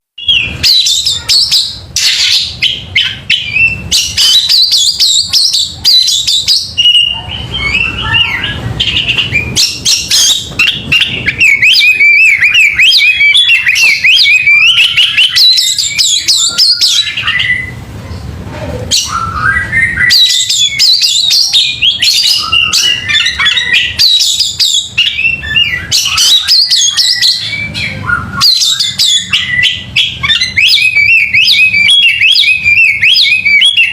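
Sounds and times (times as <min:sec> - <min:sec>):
songbird singing: 0:00.2 - 0:18.2, 0:18.9 - 0:33.9.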